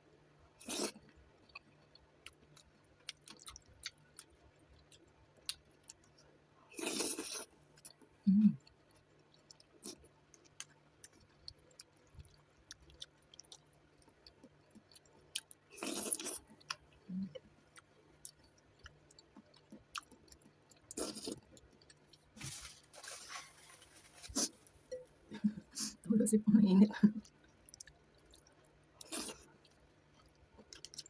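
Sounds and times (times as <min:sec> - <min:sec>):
chewing noodles with mouth clicks: 0:00.6 - 0:22.4, 0:27.2 - 0:31.0.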